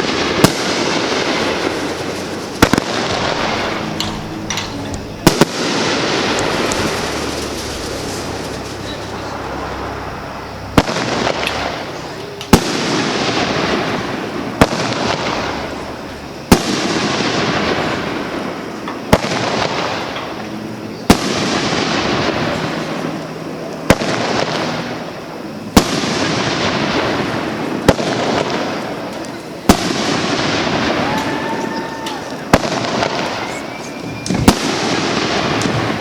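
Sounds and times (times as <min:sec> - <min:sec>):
fireworks bursting: 0:00.0 - 0:36.0
fireworks hiss: 0:00.0 - 0:36.0.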